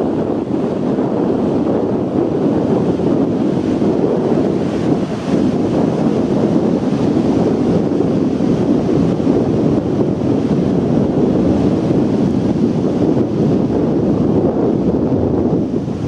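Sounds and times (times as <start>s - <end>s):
surf breaking on beach: 0.0s - 16.0s
wind on microphone: 0.0s - 16.0s.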